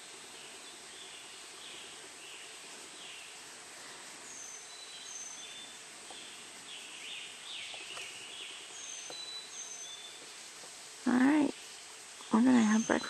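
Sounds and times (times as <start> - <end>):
songbirds singing: 0.0 - 13.0
steady hiss: 0.0 - 13.0.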